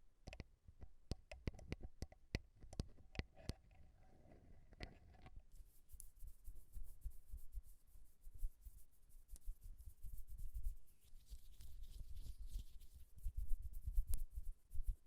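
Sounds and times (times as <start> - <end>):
scratching against microphone: 2.7 - 15.0.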